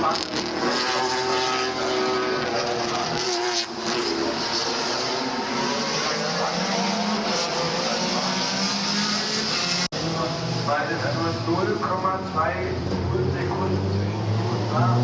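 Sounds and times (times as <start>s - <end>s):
race car engines at high revs: 0.0s - 15.0s.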